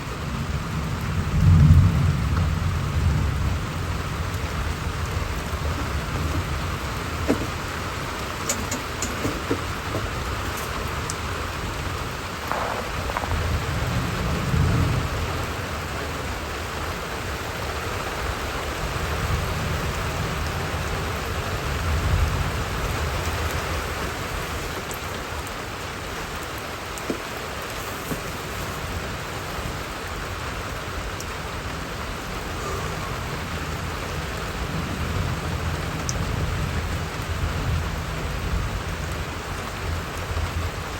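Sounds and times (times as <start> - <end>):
steady rain falling: 0.0 - 40.9
thunder rumbling: 0.0 - 40.9.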